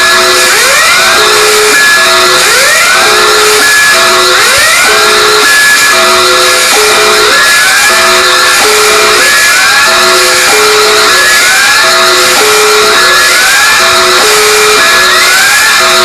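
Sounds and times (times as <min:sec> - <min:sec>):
electronic alarm with rising sweeps: 0:00.0 - 0:16.0.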